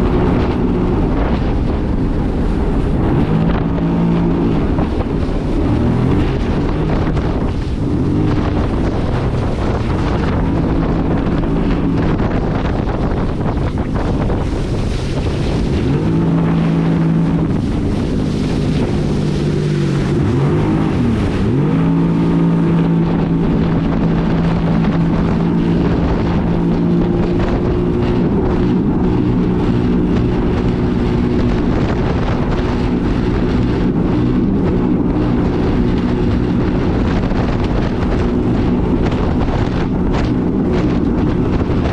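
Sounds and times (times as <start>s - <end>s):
personal watercraft engine running: 0.0s - 41.9s
wind on microphone: 0.0s - 41.9s.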